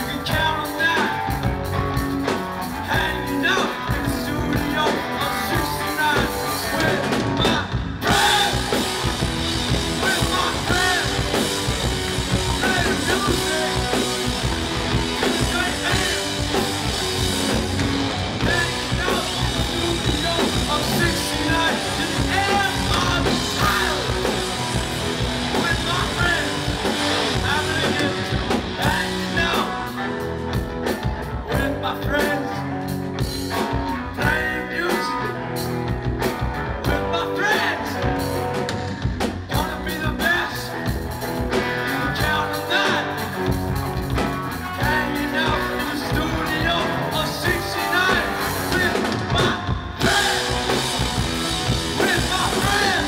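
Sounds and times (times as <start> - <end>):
person singing: 0.0 - 2.0, 2.6 - 32.9, 33.5 - 35.6, 41.5 - 43.6, 44.5 - 53.0
electric guitar: 0.0 - 53.0
rock band playing live: 0.0 - 53.0.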